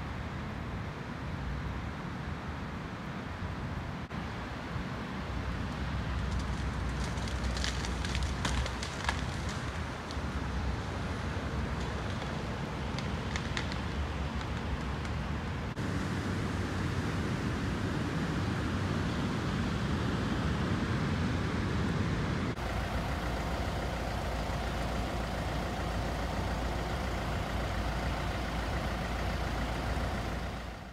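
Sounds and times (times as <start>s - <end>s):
road traffic: 0.0s - 30.9s
wind rumble: 3.2s - 30.9s.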